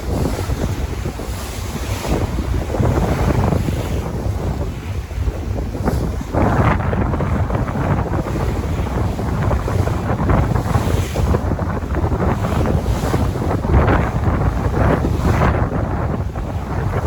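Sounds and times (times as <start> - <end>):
sea waves washing in: 0.0 - 17.0
wind buffeting the microphone: 0.0 - 17.0.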